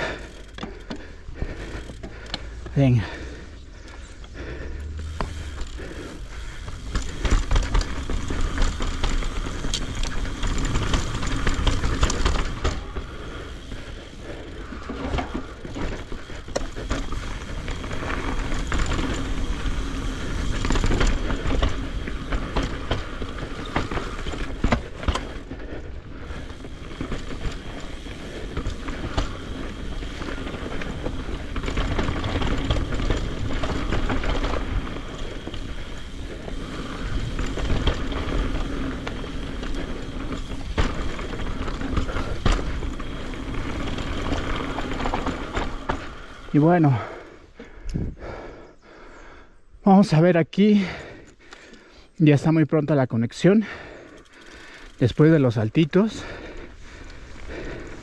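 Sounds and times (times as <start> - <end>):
bike frame and chain rattling: 0.0 - 47.3, 53.2 - 58.0
bike tyres crunching over dirt: 0.0 - 58.0.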